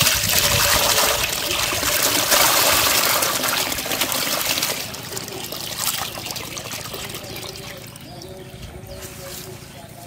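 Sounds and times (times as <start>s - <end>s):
water pouring into metal basin: 0.0s - 8.6s.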